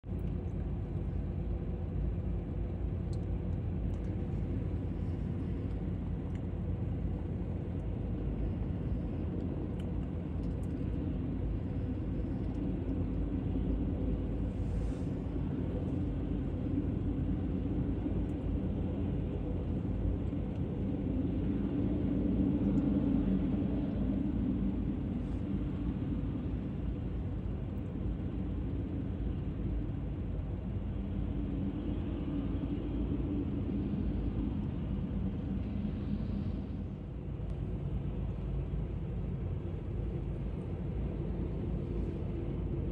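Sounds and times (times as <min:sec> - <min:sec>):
jet engines rumbling: 0:00.1 - 0:42.9.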